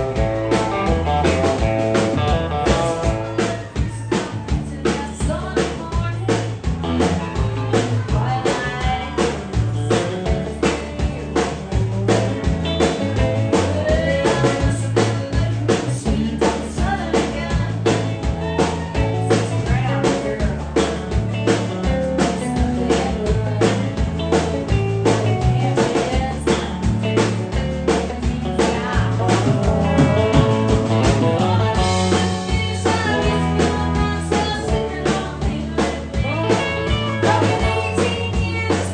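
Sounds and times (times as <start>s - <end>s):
acoustic and electric guitars: 0.0s - 38.9s
bass line: 0.0s - 38.9s
steady drum beat: 0.0s - 38.9s
woman singing: 0.0s - 38.9s.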